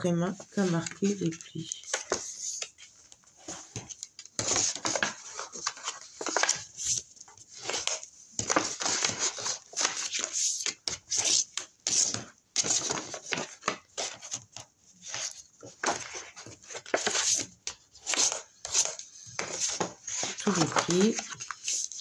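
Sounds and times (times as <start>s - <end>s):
stiff paper rustling and scraping: 0.4s - 22.0s.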